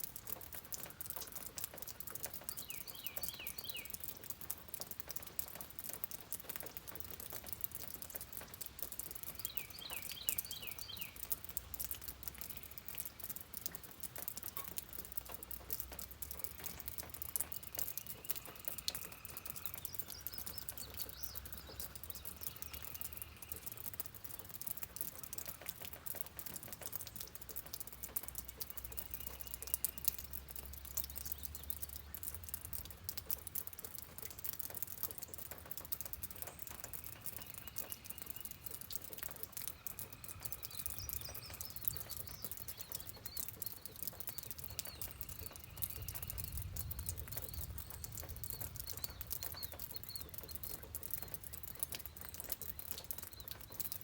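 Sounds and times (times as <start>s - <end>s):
rain pattering: 0.0s - 54.0s
birds chirping: 0.2s - 32.7s, 33.6s - 54.0s.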